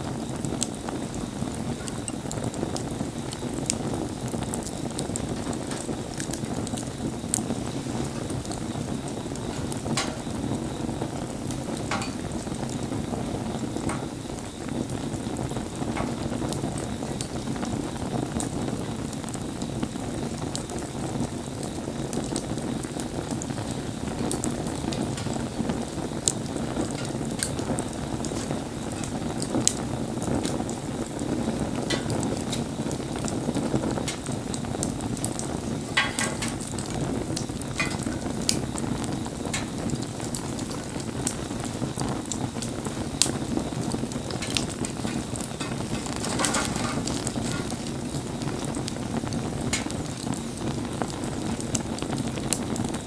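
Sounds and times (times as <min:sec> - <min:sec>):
bonfire flame rushing: 0:00.0 - 0:53.0
burning wood crackling and popping: 0:00.0 - 0:53.0.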